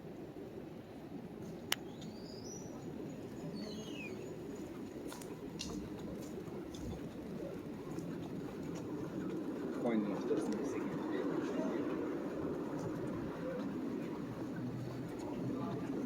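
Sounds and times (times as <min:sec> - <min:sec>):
murmur of street and people: 0:00.0 - 0:16.0.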